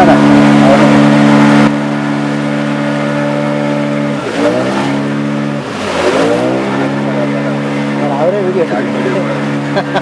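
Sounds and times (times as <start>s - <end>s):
motorboat engine droning: 0.0s - 10.0s.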